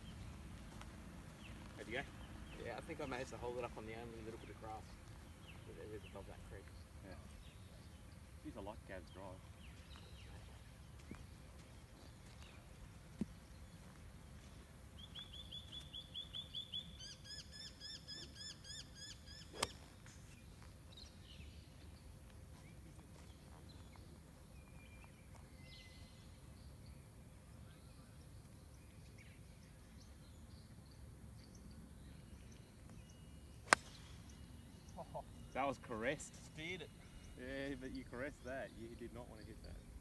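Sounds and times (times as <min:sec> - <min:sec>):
faint outdoor background: 0:00.0 - 0:40.0.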